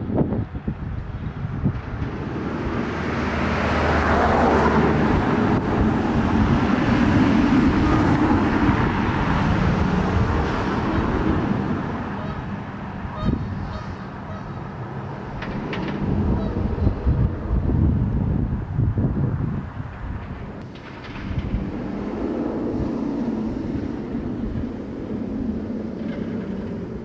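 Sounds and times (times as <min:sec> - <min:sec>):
roller coaster wheels on track: 0:00.0 - 0:27.0.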